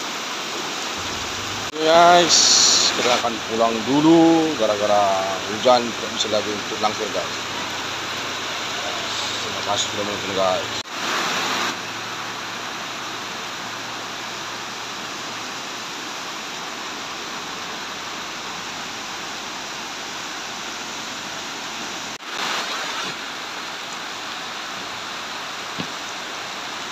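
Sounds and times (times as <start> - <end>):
heavy rain pouring: 0.0 - 26.9.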